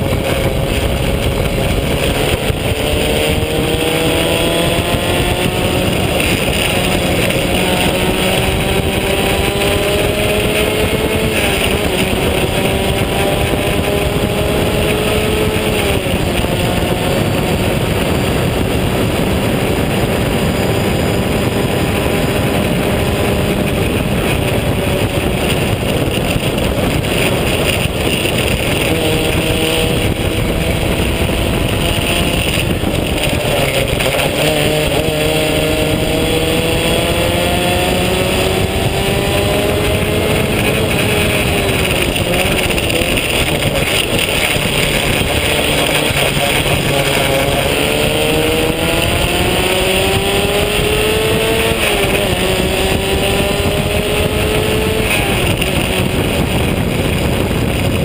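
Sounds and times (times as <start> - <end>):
race car engine revving: 0.0 - 58.0
wind noise: 0.0 - 58.0.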